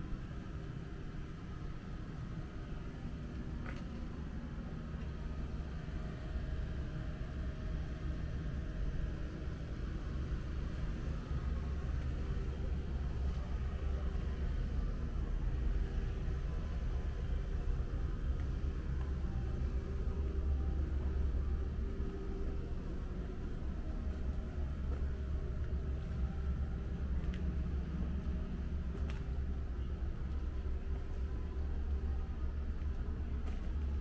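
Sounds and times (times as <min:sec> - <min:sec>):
faint hums: 0:00.0 - 0:34.0
low town rumble: 0:00.0 - 0:34.0.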